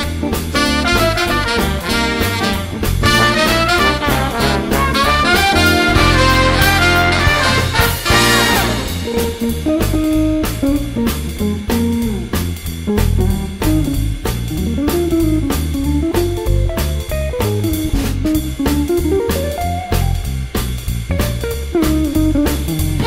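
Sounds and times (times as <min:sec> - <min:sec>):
instrumental band music: 0:00.0 - 0:23.0.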